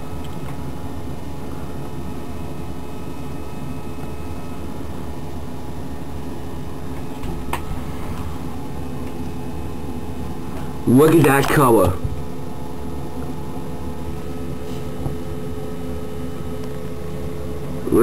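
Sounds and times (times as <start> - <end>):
electrical hum: 0.0 - 18.0
fan-like hiss: 0.0 - 18.0.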